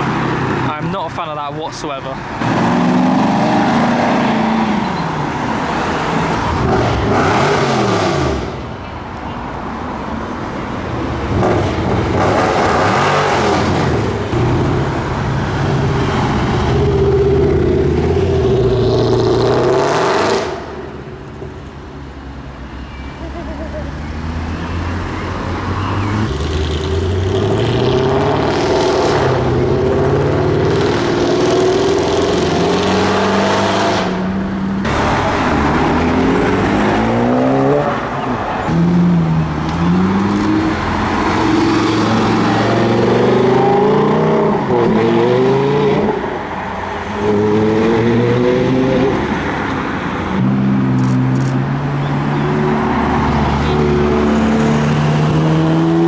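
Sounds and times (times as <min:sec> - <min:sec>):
car engines accelerating: 0:00.0 - 0:08.8, 0:09.5 - 0:56.0.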